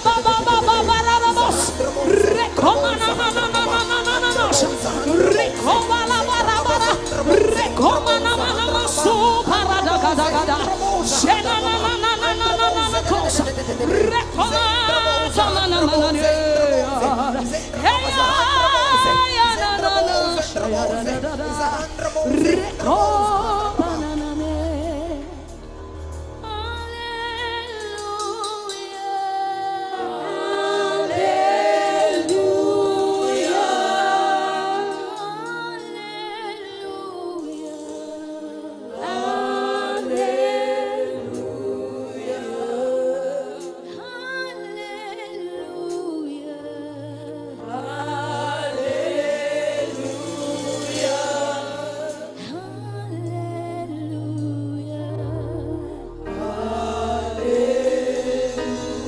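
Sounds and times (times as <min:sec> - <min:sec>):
gospel choir singing harmonies: 0:00.0 - 0:59.0.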